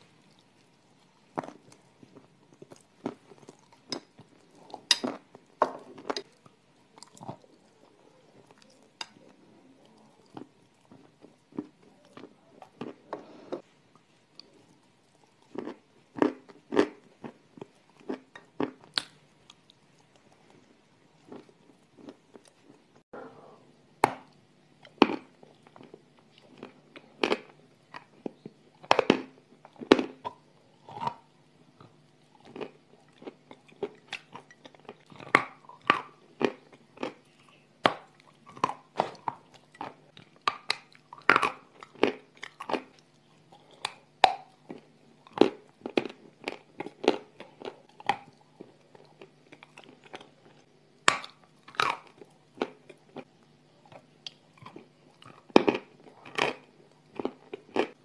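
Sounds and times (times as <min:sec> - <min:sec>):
crunching and chewing clay: 0:00.0 - 0:13.1, 0:14.0 - 0:23.0, 0:24.0 - 0:58.0.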